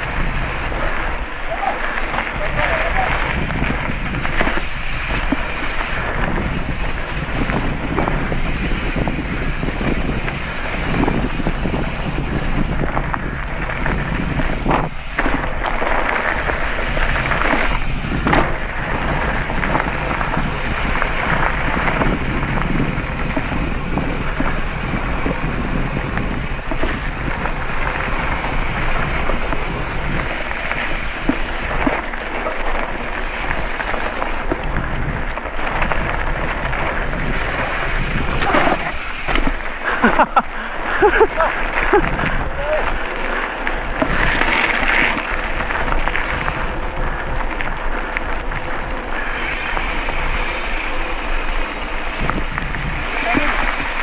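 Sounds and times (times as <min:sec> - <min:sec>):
bike rattling: 0:00.0 - 0:54.0
tyres rolling on gravel: 0:00.0 - 0:54.0
wind on microphone: 0:00.0 - 0:54.0.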